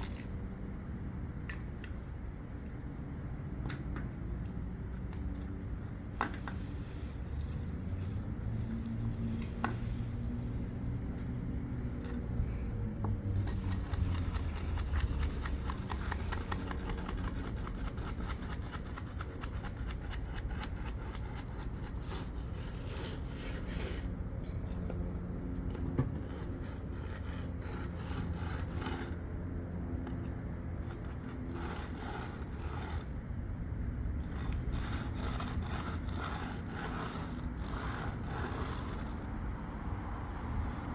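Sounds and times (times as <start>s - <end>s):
tools scraping fresh concrete: 3.7s - 29.3s, 30.1s - 33.2s, 34.2s - 39.4s.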